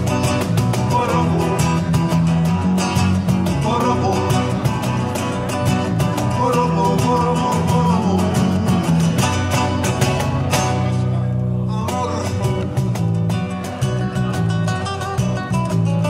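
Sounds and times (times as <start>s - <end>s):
cajon beat: 0.0s - 16.0s
electric bass line: 0.0s - 16.0s
strummed acoustic guitars: 0.0s - 16.0s.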